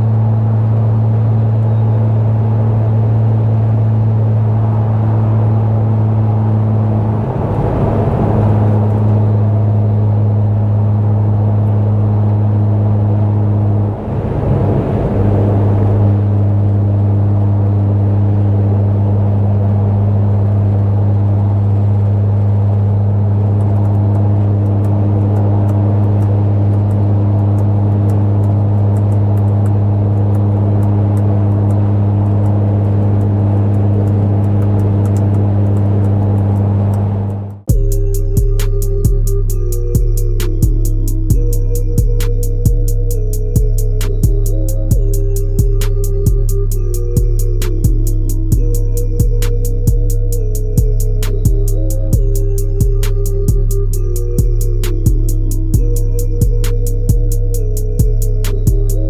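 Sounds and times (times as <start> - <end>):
car engine with loud exhaust: 0.0 - 59.0.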